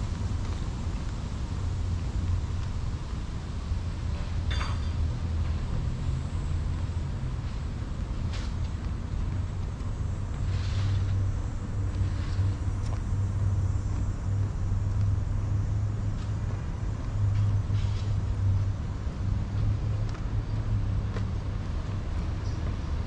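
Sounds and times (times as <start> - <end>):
low engine hum: 0.0 - 23.0
street ambience: 0.0 - 23.0.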